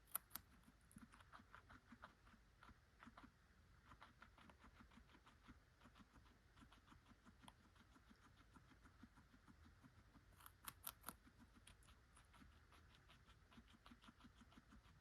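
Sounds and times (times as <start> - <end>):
guinea pig chewing carrot: 0.0 - 15.0.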